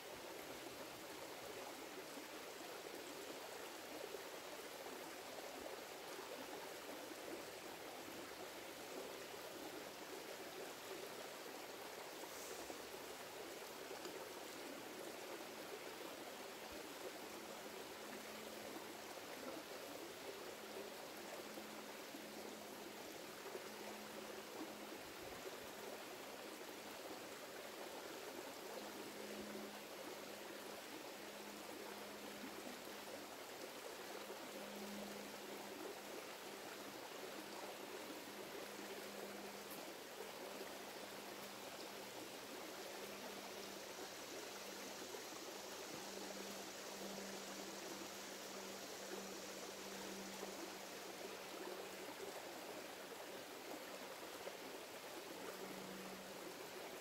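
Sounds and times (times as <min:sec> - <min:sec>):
creek trickling over stones: 0:00.0 - 0:57.0
faint low hum: 0:00.1 - 0:56.9.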